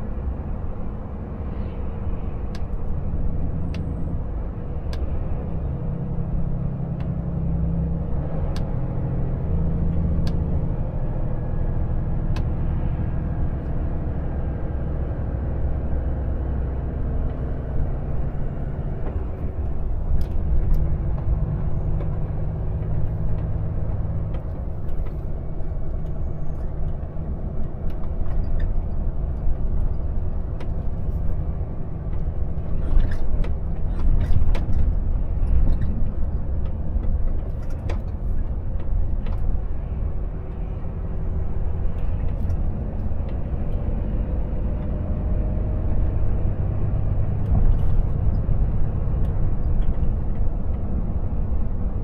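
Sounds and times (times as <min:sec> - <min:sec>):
road noise: 0:00.0 - 0:52.0.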